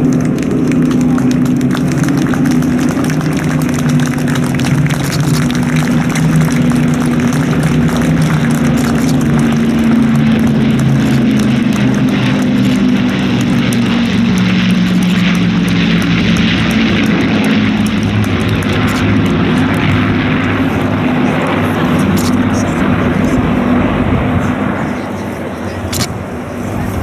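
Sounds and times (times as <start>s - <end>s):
propeller aircraft engines droning: 0.0s - 27.0s.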